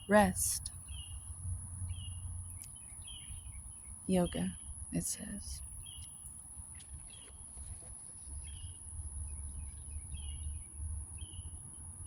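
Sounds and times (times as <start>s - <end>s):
insect chirps: 0.0s - 12.0s.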